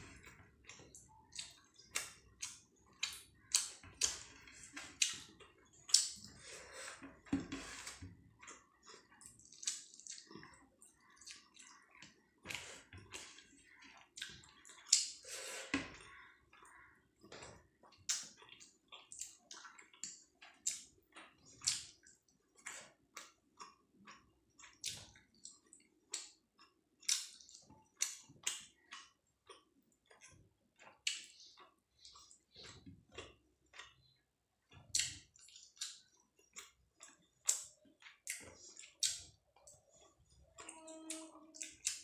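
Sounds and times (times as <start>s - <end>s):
chewing and lip smacks: 0.1s - 6.4s, 8.2s - 15.3s, 17.7s - 42.0s
wet squishing of food mashed: 7.0s - 42.0s.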